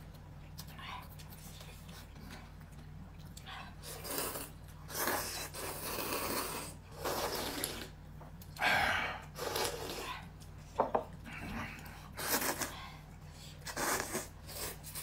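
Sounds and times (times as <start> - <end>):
person eating noisily: 0.0 - 15.0.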